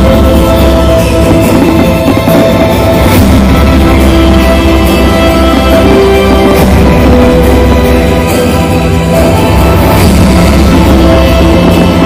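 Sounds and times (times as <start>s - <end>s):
loud music with strong bass: 0.0s - 12.0s.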